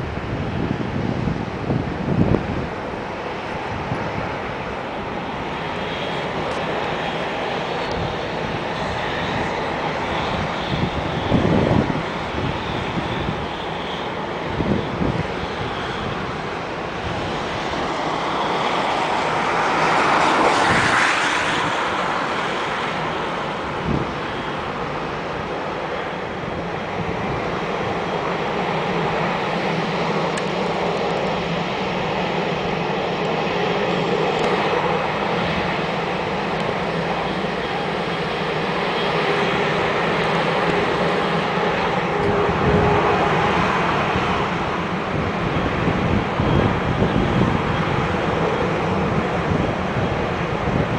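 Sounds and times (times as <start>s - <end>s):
jet engines taxiing: 0.0s - 50.9s.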